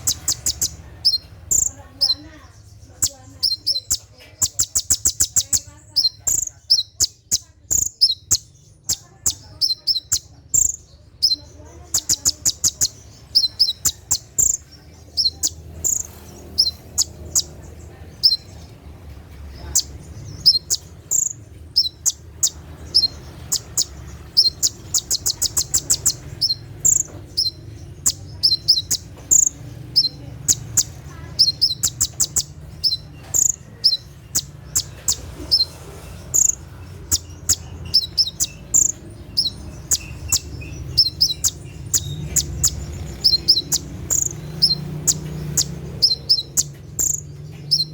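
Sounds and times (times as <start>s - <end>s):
bird singing rapid chirps: 0.0s - 47.9s.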